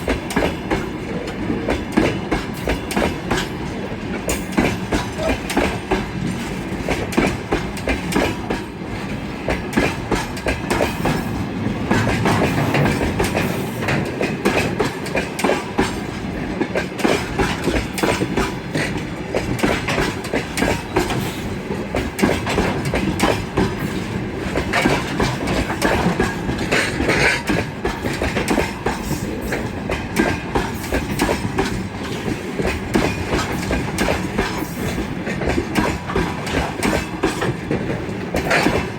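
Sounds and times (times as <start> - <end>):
train rumble: 0.0 - 38.9
train wheels clacking: 0.0 - 38.9.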